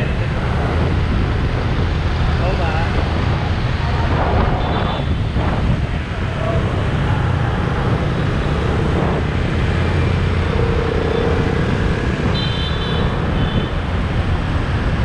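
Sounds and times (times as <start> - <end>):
motorbike traffic: 0.0 - 15.0.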